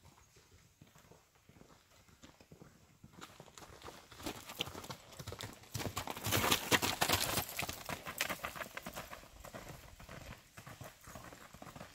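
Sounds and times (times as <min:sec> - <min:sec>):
hoofbeats on gravel: 0:00.0 - 0:11.9.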